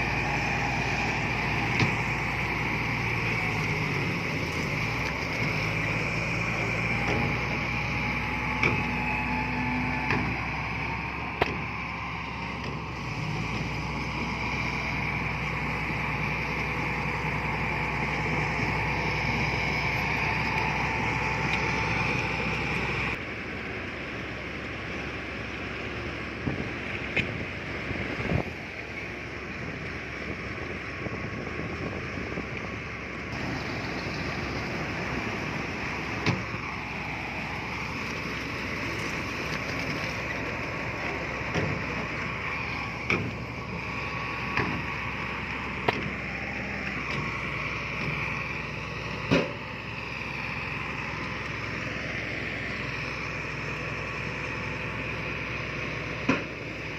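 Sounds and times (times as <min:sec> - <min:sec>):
earthmoving machinery running: 0:00.0 - 0:56.9.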